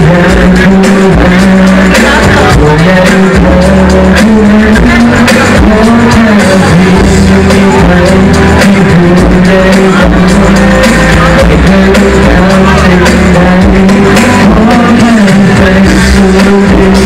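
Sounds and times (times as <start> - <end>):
backing music with drums: 0.0 - 17.0
man singing into microphone: 0.0 - 17.0.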